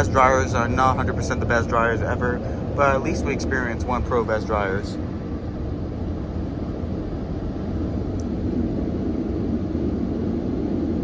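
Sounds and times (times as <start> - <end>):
car wash dryers blowing air: 0.0 - 11.0.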